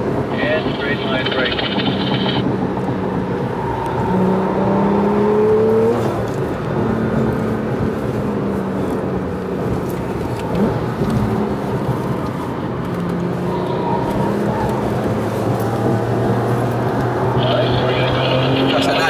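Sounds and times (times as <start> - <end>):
car engine accelerating: 0.0 - 19.0
road and tyre noise: 0.0 - 19.0.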